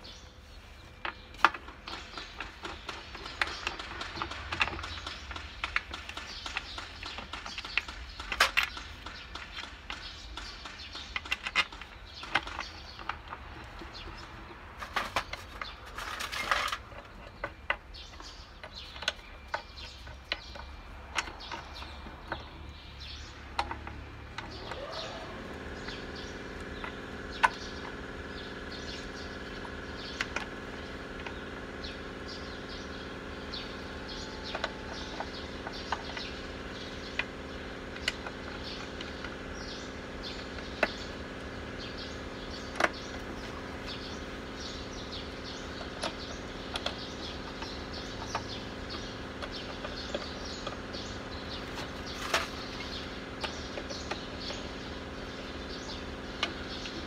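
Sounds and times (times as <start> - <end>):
machine whining and humming: 0.0 - 57.0.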